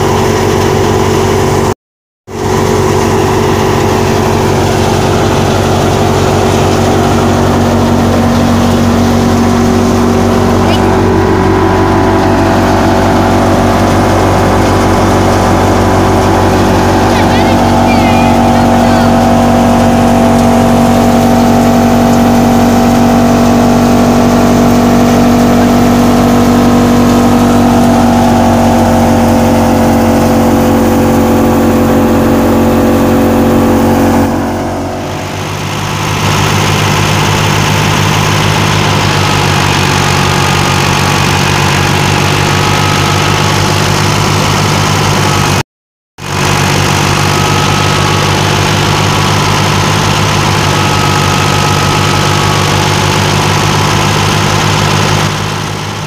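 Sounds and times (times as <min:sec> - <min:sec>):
thresher humming: 0:00.0 - 0:01.7, 0:02.3 - 0:45.6, 0:46.2 - 0:56.0
tractor engine running: 0:00.0 - 0:45.6, 0:46.2 - 0:56.0.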